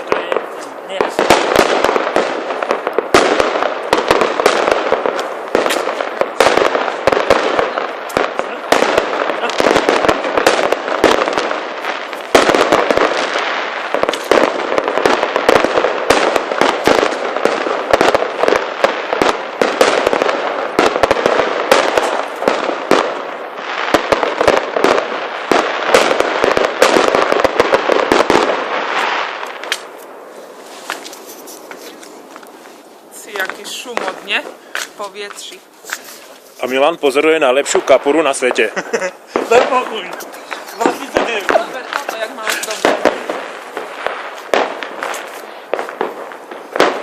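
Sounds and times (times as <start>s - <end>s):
fireworks crackle: 0.0s - 47.0s
fireworks pops and bangs: 0.0s - 47.0s.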